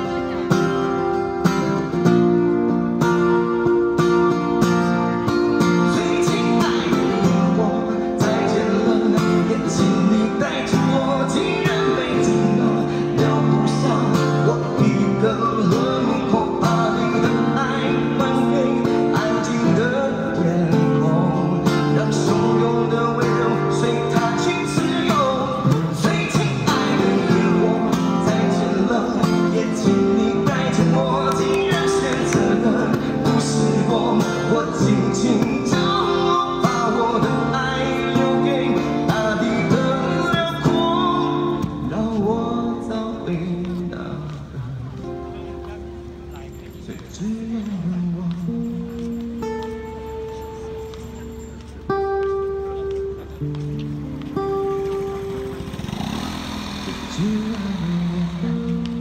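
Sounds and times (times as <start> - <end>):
acoustic guitar strumming: 0.0 - 59.0
man singing a pop ballad: 5.3 - 50.7, 56.8 - 59.0.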